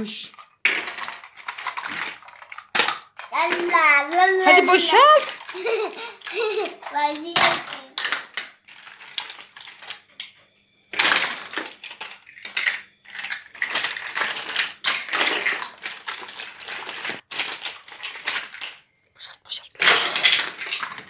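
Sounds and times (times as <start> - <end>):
plastic blocks clattering on wire rack: 0.0 - 10.3, 10.9 - 18.8, 19.8 - 21.0.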